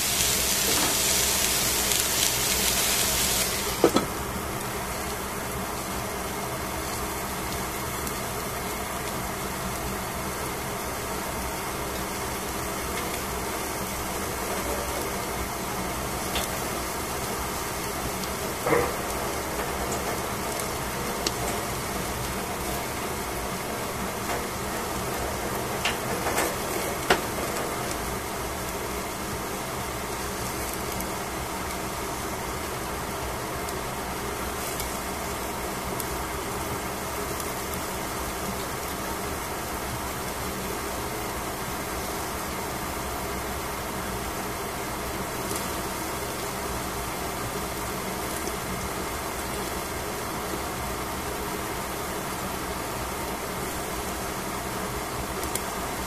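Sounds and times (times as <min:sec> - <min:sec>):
vegetables sizzling in a covered pan: 0:00.0 - 0:56.0.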